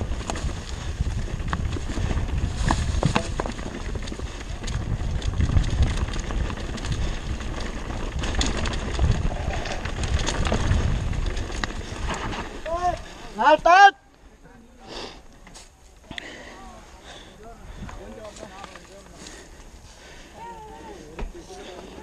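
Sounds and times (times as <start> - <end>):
wind and bike frame rumble: 0.0 - 22.0.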